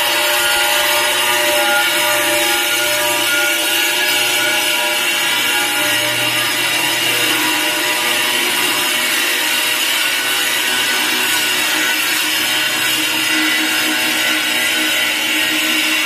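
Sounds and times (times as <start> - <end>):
angle grinder whining: 0.0 - 16.0.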